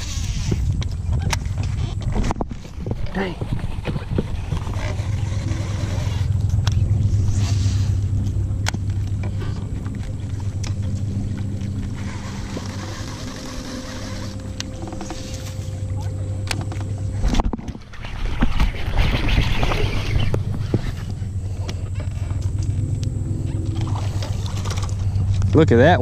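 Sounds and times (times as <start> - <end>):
electric boat motor humming: 0.0 - 26.0.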